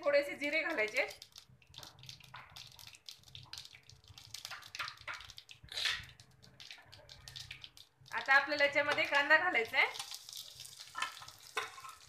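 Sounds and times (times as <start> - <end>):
seeds popping in hot oil: 0.0 - 12.0
seeds sizzling in oil: 0.0 - 12.0.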